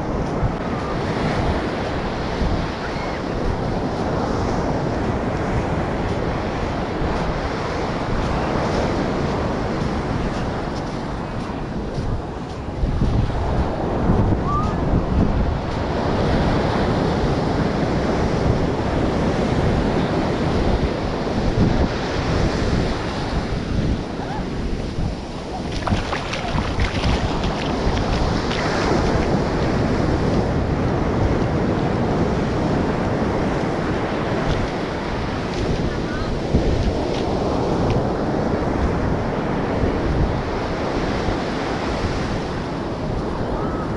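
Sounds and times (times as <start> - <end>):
waves breaking on beach: 0.0 - 43.9
wind buffeting microphone: 0.0 - 43.9.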